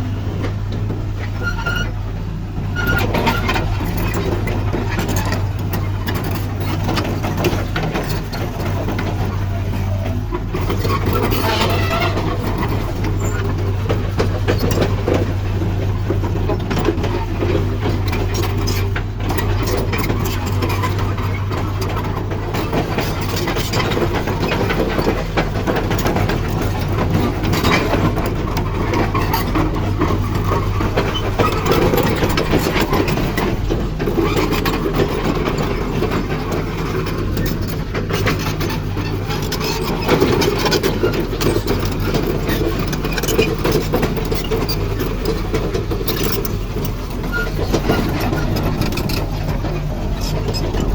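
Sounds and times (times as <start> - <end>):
excavator diesel engine running: 0.0 - 50.9
knocks and clatter: 2.7 - 50.9.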